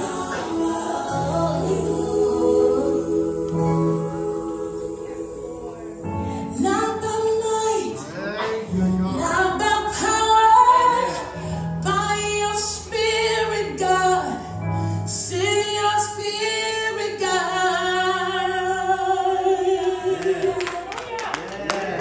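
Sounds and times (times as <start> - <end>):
woman singing gospel lead: 0.0 - 8.1, 9.1 - 21.1.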